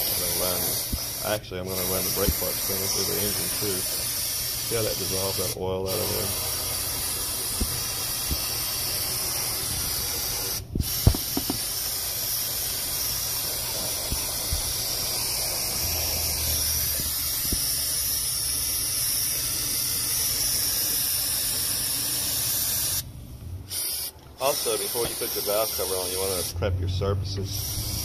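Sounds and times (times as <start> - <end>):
aerosol spray hissing: 0.0 - 23.0, 23.7 - 26.6, 27.4 - 28.0.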